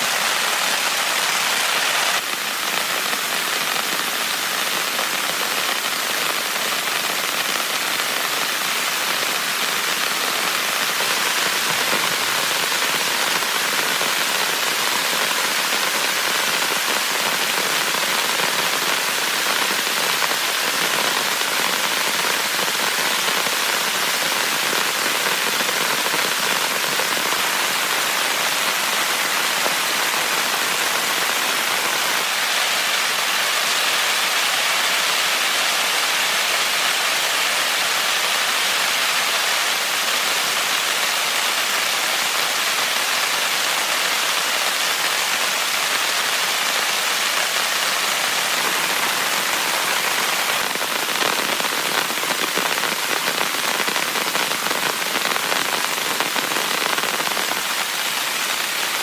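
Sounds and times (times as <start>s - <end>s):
heavy rain on a tent: 0.0s - 59.0s.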